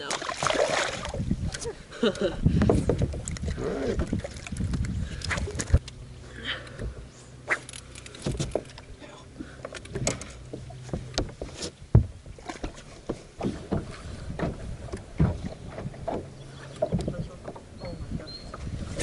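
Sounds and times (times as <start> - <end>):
water lapping at hull: 0.0 - 19.0.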